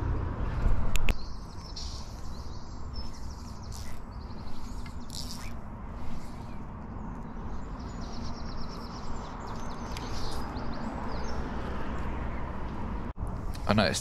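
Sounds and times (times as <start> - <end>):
birds chirping: 0.0 - 13.0
low outdoor rumble: 0.0 - 14.0.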